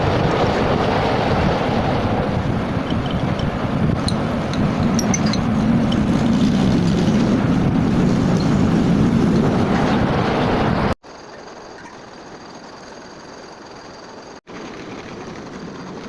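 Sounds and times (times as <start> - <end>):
metalworking machinery running: 2.6 - 16.0.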